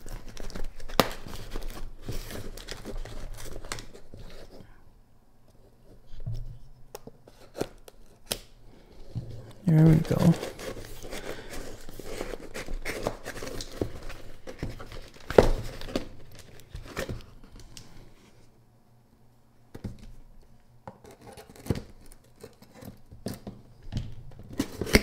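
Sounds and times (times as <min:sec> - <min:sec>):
cardboard and tape rustling: 0:00.0 - 0:04.7, 0:05.8 - 0:18.5, 0:20.9 - 0:23.6, 0:24.2 - 0:25.0.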